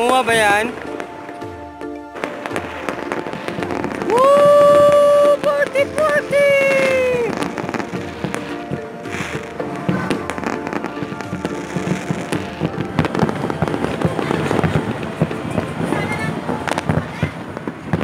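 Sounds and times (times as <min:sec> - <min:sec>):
fireworks popping and crackling: 0:00.0 - 0:18.0
music playing: 0:00.0 - 0:18.0.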